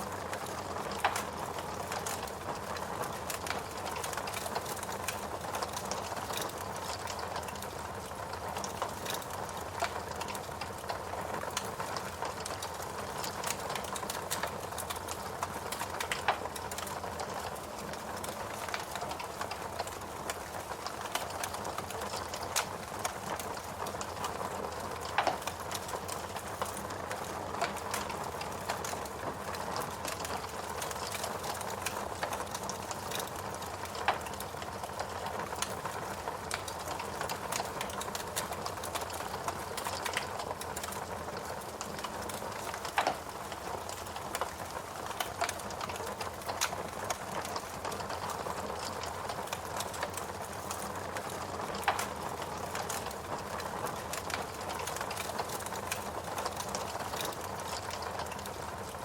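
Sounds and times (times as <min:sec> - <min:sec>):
burning logs crackling: 0:00.0 - 0:59.0.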